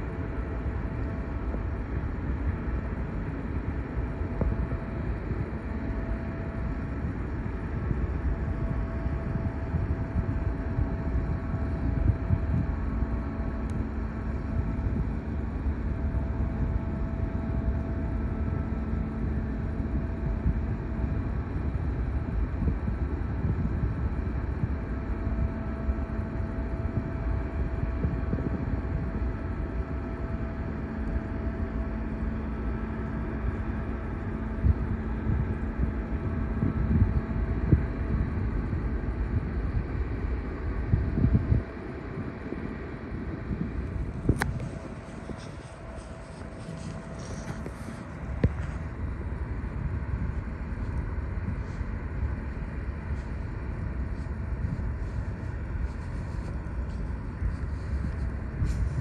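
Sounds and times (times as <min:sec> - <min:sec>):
ship engines low rumble: 0:00.0 - 0:59.0.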